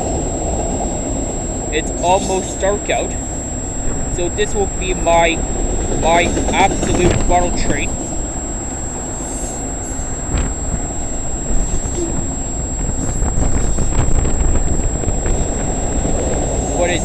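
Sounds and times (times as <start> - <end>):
freight train rolling past: 0.0 - 17.0
wheels clacking on rail: 0.0 - 17.0
wind buffeting microphone: 0.0 - 17.0.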